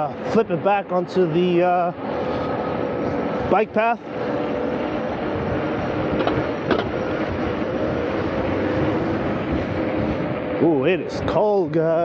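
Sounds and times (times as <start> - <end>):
steady hum: 0.0 - 12.0
wind and road noise: 0.0 - 12.0.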